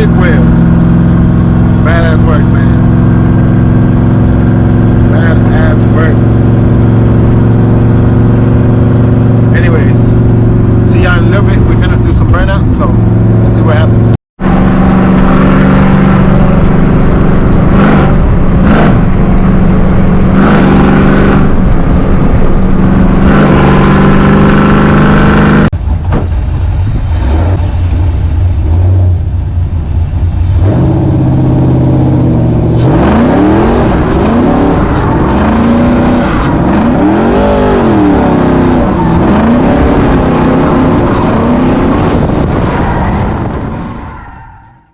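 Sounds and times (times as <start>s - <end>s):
truck exhaust revving: 0.0s - 44.9s.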